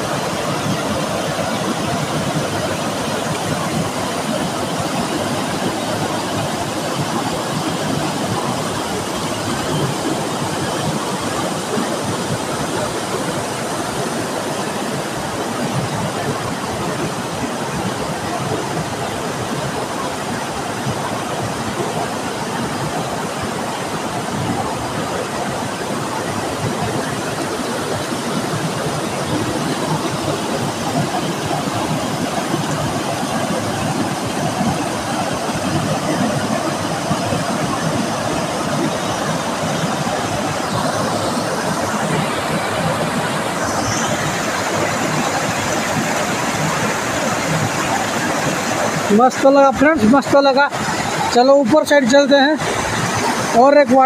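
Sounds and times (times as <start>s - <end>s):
waterfall pouring: 0.0s - 54.0s.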